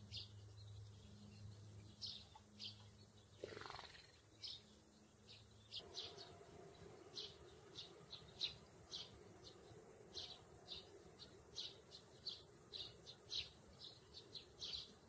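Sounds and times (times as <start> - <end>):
faint steady hum: 0.0 - 15.0
sparrows chirping: 0.0 - 15.0.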